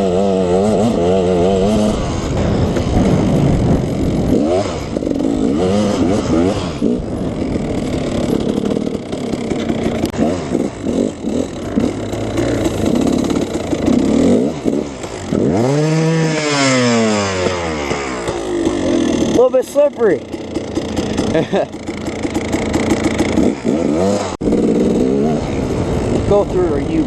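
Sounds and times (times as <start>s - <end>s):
two-stroke dirt bike engine revving: 0.0s - 27.0s.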